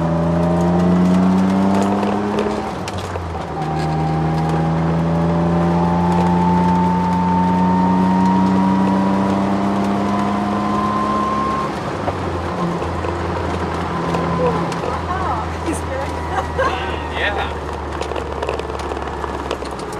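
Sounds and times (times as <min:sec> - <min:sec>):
car engine pulling hard: 0:00.0 - 0:19.9
drivetrain whine: 0:00.0 - 0:19.9.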